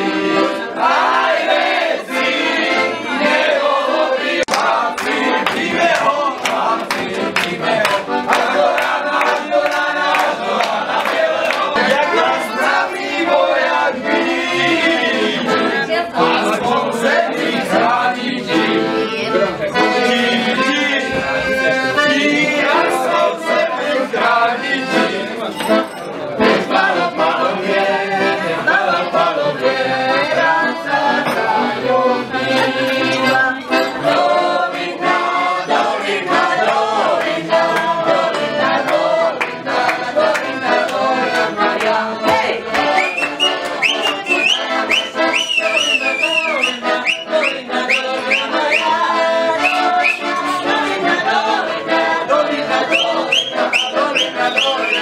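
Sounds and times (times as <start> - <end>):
accordion playing folk tune: 0.0 - 55.0
men singing: 0.0 - 55.0.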